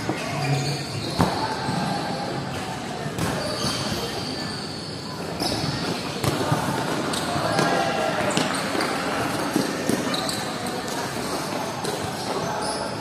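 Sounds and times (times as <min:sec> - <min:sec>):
voices of players and spectators: 0:00.0 - 0:13.0.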